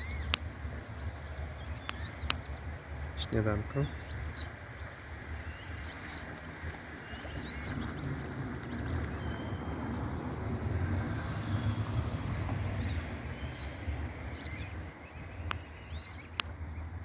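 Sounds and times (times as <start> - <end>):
birds chirping: 0.0 - 17.0
wind rumble on microphone: 0.0 - 17.0.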